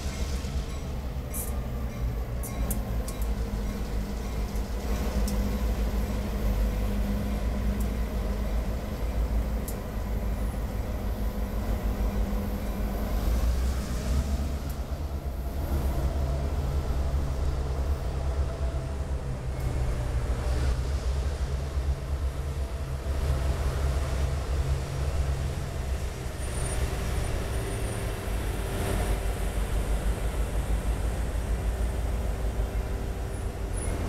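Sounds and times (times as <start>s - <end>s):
diesel locomotives rumbling past: 0.0s - 34.0s.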